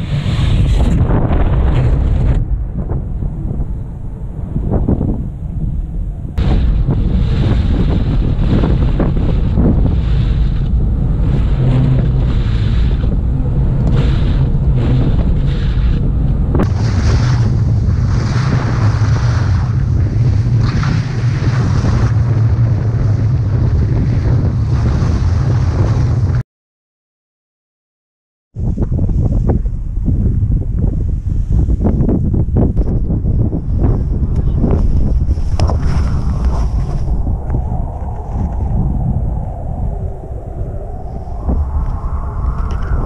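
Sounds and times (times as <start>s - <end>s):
wind buffeting microphone: 0.0s - 26.4s, 28.6s - 43.0s.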